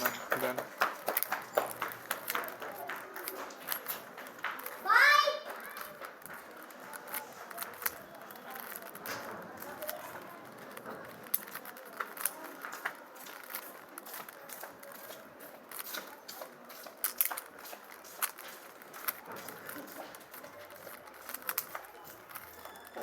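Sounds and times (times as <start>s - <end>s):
puzzle cube plastic clicks: 0.0s - 4.8s, 5.7s - 23.0s
faint voices: 0.0s - 23.0s.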